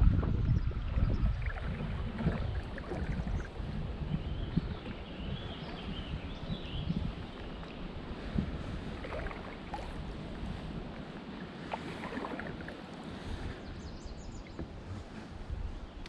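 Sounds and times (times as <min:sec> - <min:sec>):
wind rumbling on microphone: 0:00.0 - 0:16.0
paddle splashing in water: 0:00.2 - 0:15.5.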